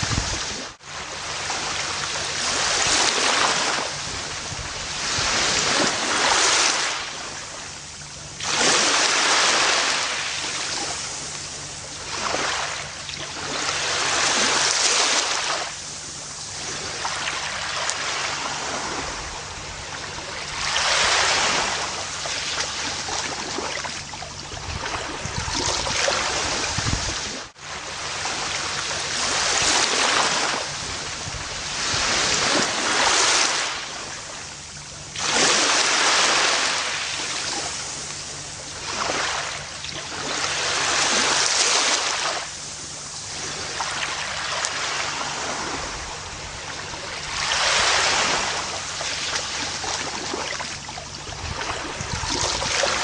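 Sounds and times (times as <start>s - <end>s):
ocean waves washing onto beach: 0.0s - 53.0s.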